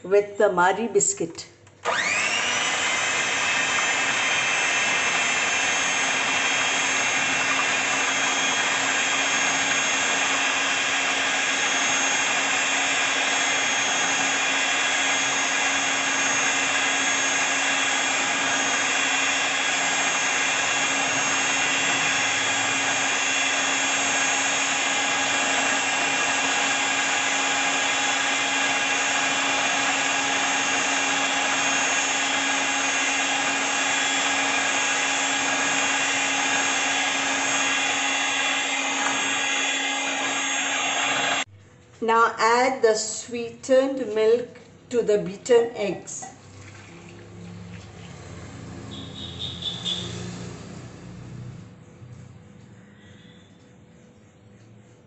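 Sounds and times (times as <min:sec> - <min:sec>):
electric mixer motor whine: 0:01.8 - 0:41.5, 0:46.7 - 0:52.4.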